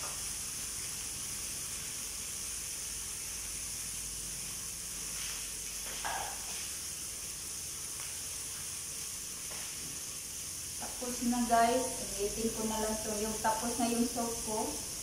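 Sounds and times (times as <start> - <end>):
chicken sizzling in grill pan: 0.0 - 15.0.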